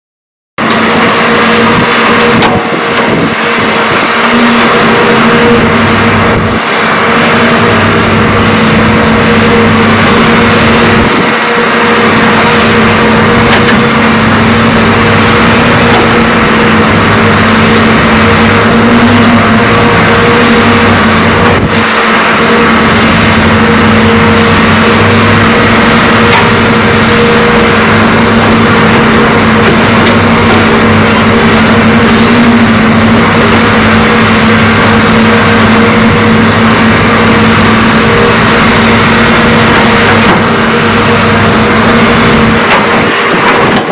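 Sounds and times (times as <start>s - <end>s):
excavator diesel engines: 0.6s - 43.9s
hydraulics hissing: 0.7s - 43.9s.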